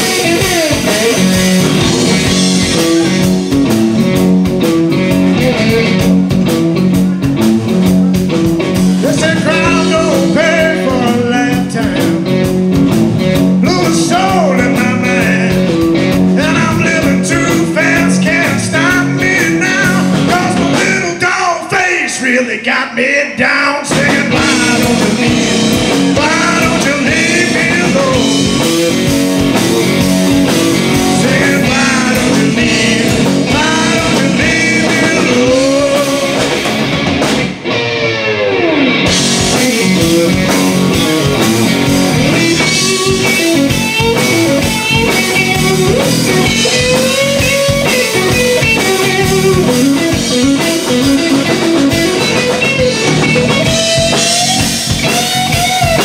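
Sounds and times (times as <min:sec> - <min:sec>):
electric guitar bending lead lines: 0:00.0 - 0:21.1, 0:23.9 - 0:56.0
bass guitar: 0:00.0 - 0:22.2, 0:23.8 - 0:56.0
drums: 0:00.0 - 0:56.0.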